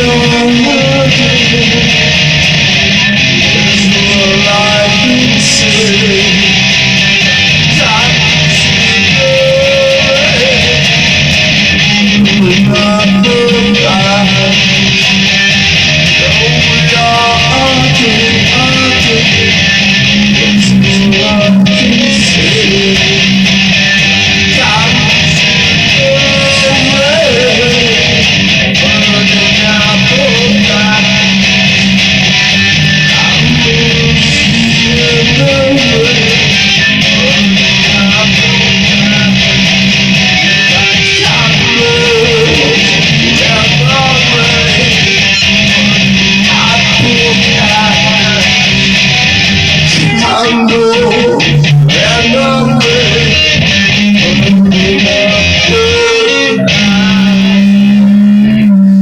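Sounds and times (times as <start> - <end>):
distorted electric guitar playing: 0.0 - 59.0.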